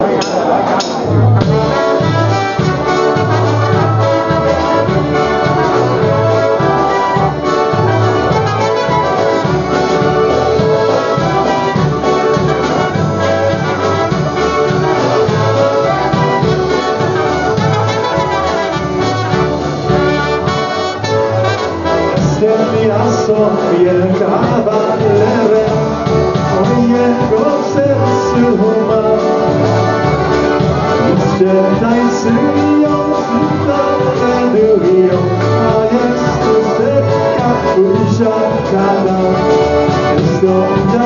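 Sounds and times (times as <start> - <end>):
polka band brass: 0.0 - 41.0
bouncing bass beat: 0.1 - 41.0.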